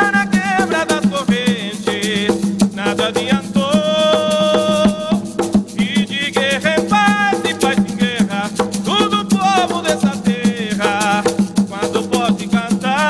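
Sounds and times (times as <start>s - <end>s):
drums and percussion: 0.0s - 13.0s
person singing: 0.0s - 13.0s.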